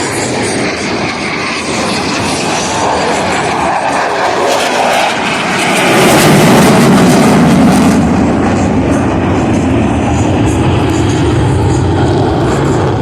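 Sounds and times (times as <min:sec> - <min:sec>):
jets flying past roaring: 0:00.0 - 0:13.0.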